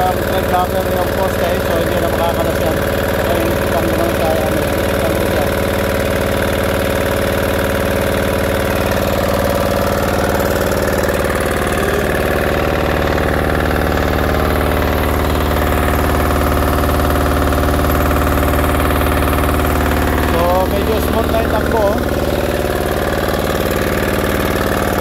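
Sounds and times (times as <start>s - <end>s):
diesel engine running steadily: 0.0s - 25.0s.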